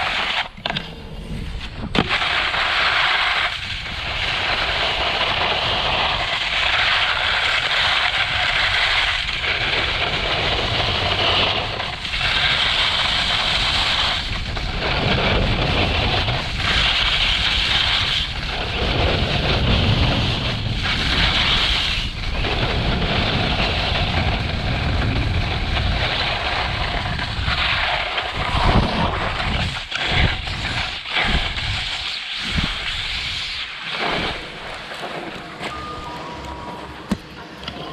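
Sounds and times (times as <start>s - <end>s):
wind noise on microphone: 0.0s - 34.8s
skiboards carving on snow: 0.0s - 36.9s.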